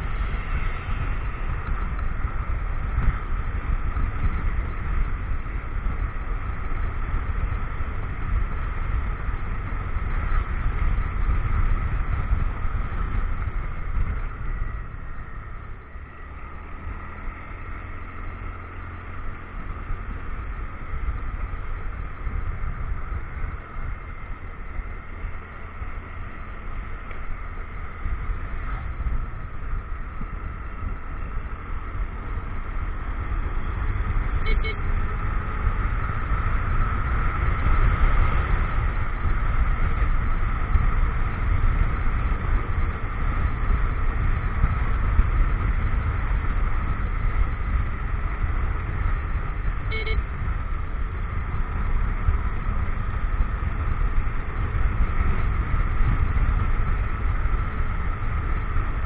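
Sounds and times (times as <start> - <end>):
motorcycle engine: 0.0 - 59.0
road noise: 0.0 - 59.0
wind rushing over microphone: 0.0 - 59.0.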